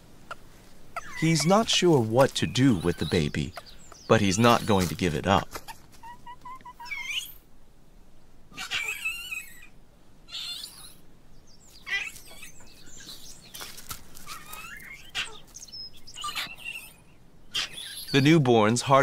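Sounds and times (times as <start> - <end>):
infant monkeys squeaking: 0.3 - 7.4, 8.5 - 11.0, 11.7 - 18.4.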